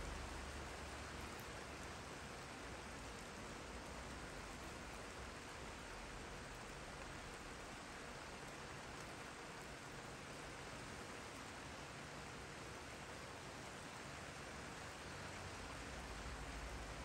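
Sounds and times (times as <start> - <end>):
rain hissing steadily: 0.0 - 17.0.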